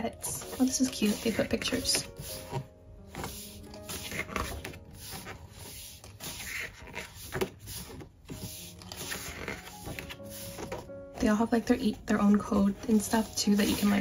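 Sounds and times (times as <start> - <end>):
faint background music: 0.0 - 14.0
paper pages turning: 0.1 - 14.0.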